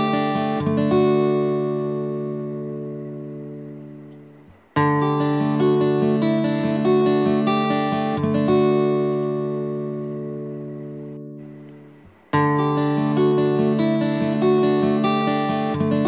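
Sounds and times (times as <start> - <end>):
plucked acoustic guitar music: 0.0 - 16.0.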